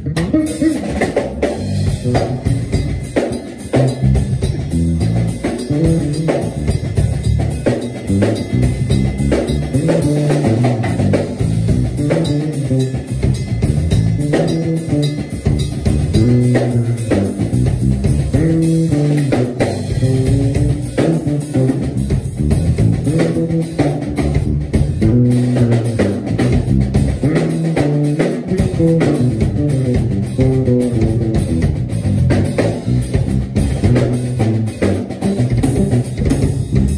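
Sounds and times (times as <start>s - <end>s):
drum kit groove: 0.0s - 36.9s
electric bass line: 0.0s - 36.9s.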